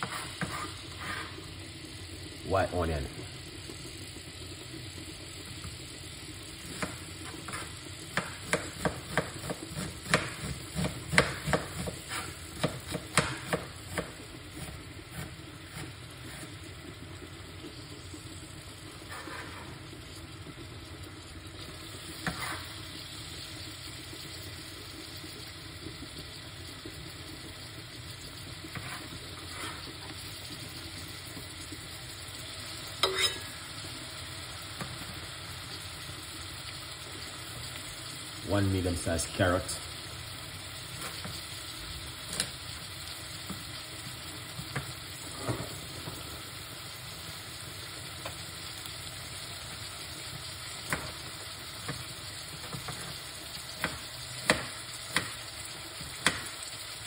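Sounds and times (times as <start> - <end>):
onion sizzling in oil: 0.0 - 57.0.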